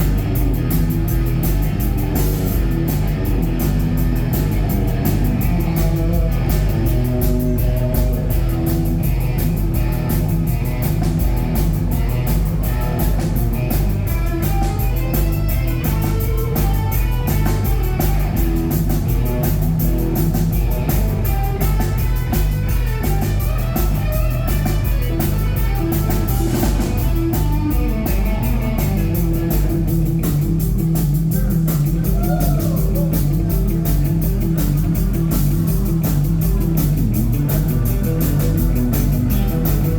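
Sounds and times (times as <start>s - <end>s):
drum kit: 0.0s - 39.9s
guitar: 0.0s - 39.9s
rock band playing live: 0.0s - 39.9s.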